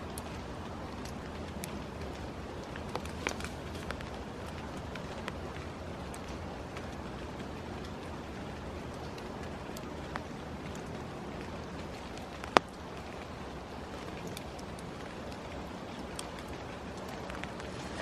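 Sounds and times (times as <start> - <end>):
light ticks: 0.0 - 18.0
steady outdoor hiss: 0.0 - 18.0.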